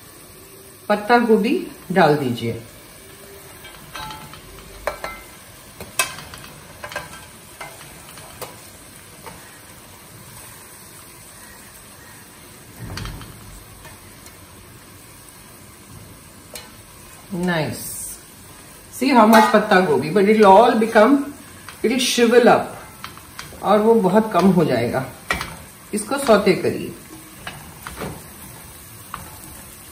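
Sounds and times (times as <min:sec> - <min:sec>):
oil sizzling in pot: 0:00.0 - 0:29.9.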